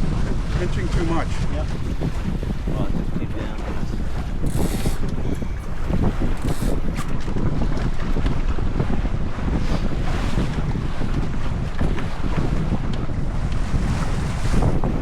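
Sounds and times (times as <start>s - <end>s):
water slapping along hull: 0.0s - 15.0s
wind buffeting microphone: 0.0s - 15.0s.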